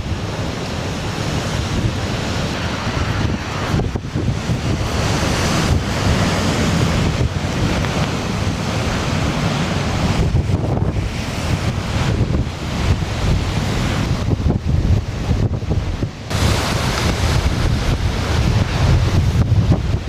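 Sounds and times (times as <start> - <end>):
storm waves breaking on rocks: 0.0 - 20.0
wind buffeting microphone: 0.0 - 20.0.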